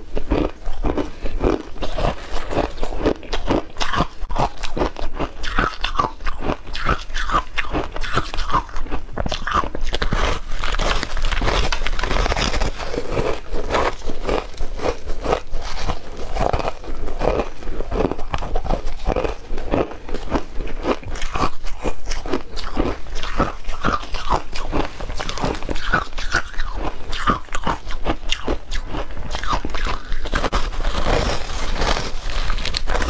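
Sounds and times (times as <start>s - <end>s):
crunching and chewing ice: 0.0s - 33.0s.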